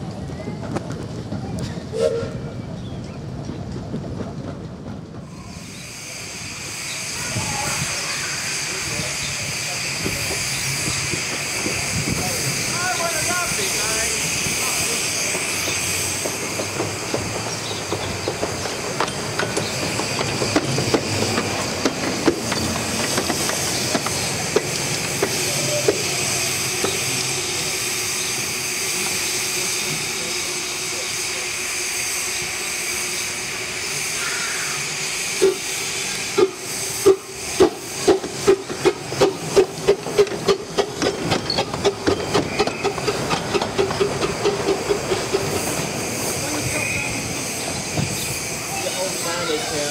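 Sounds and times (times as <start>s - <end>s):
steam locomotives hissing: 0.1s - 49.9s.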